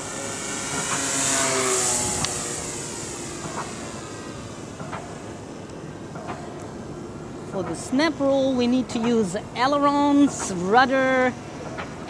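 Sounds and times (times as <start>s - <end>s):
model plane motor whining past: 0.0s - 12.0s.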